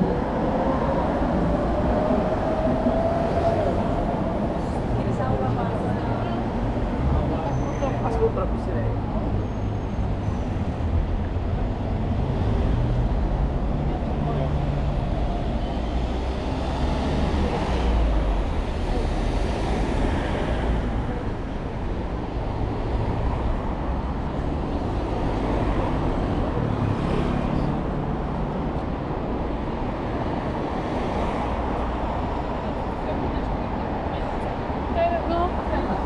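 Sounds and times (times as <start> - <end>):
cars passing: 0.0 - 36.0
city road traffic: 0.0 - 36.0.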